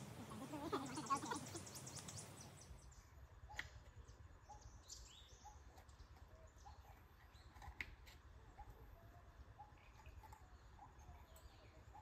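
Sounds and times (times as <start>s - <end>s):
faint bird chirps: 0.2s - 12.0s.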